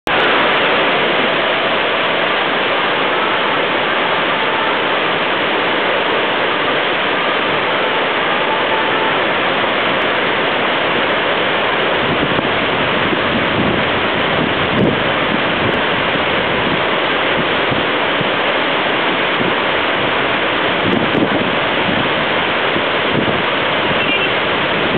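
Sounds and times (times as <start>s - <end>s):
water rushing over spillway: 0.0s - 24.9s
wind buffeting microphone: 0.7s - 24.9s.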